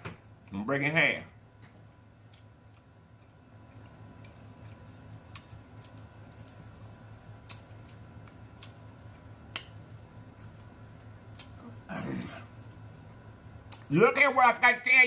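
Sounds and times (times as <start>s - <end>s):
low steady hum: 0.0s - 15.0s
quiet chewing: 1.6s - 13.9s.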